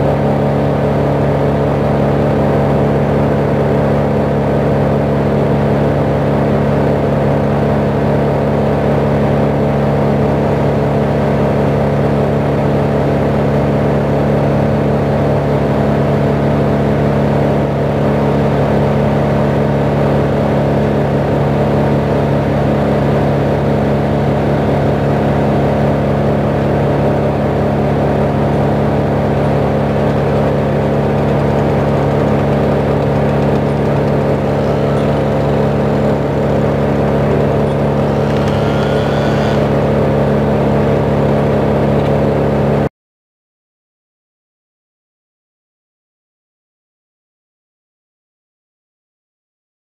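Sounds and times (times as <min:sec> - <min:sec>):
truck engine running steadily: 0:00.0 - 0:42.9.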